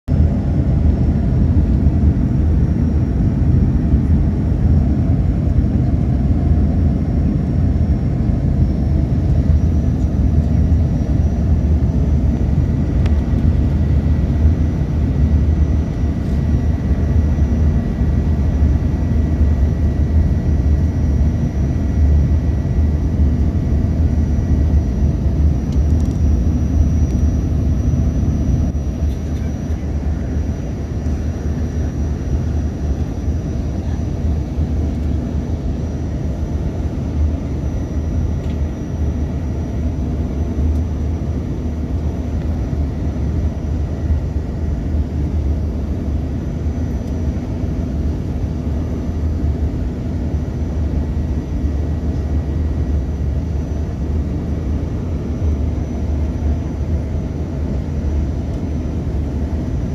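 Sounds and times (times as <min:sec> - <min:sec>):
jet engine deep rumble: 0:00.0 - 0:59.9
faint high whine: 0:00.2 - 0:59.9.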